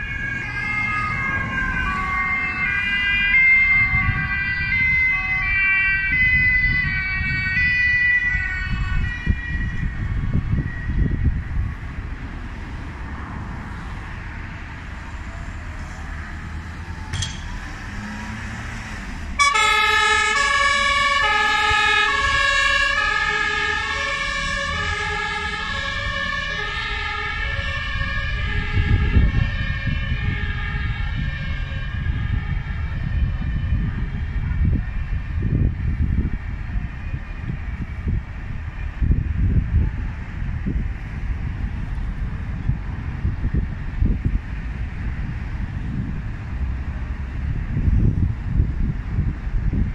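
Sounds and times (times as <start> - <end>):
fire engine two-tone siren: 0.0 - 12.8, 13.7 - 49.9.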